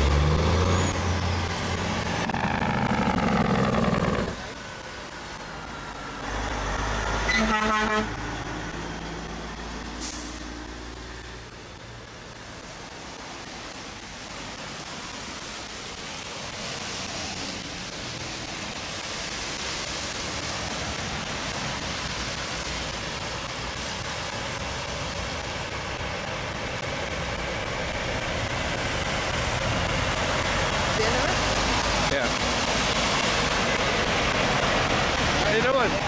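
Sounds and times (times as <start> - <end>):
trucks approaching: 0.0 - 36.0
tyres hissing on wet road: 0.0 - 36.0.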